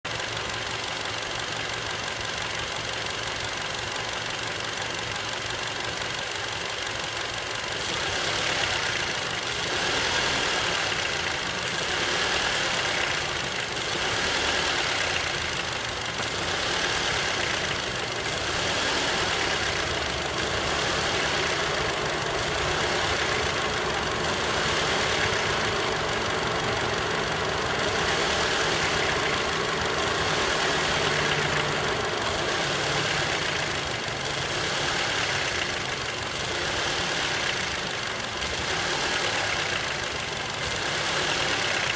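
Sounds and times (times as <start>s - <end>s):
car engine revving: 0.2s - 41.9s.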